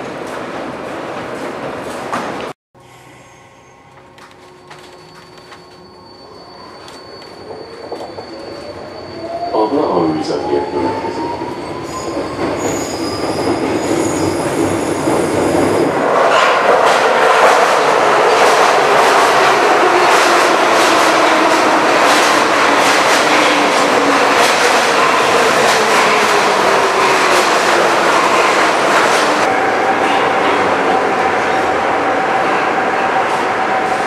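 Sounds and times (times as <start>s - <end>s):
metro train rumbling past: 0.0s - 34.0s.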